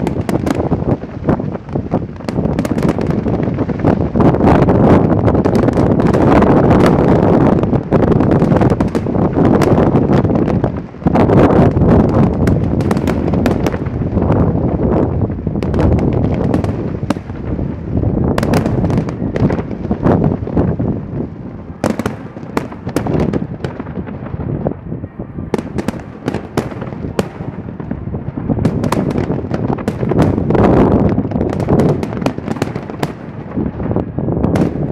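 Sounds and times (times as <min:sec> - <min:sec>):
fireworks bangs and cracks: 0:00.0 - 0:34.9.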